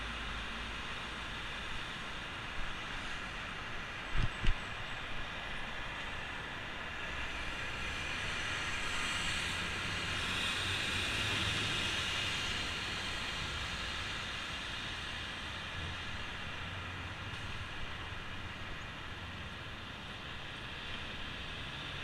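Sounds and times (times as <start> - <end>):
passing road traffic: 0.0 - 22.0.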